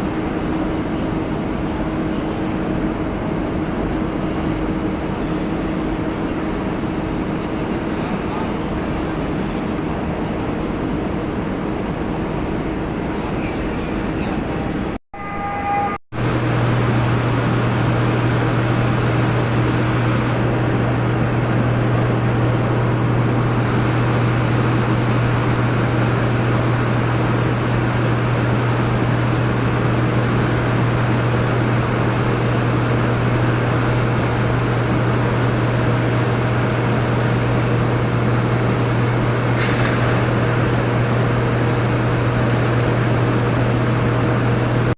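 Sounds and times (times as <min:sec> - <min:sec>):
loud machinery hum: 0:00.0 - 0:44.9.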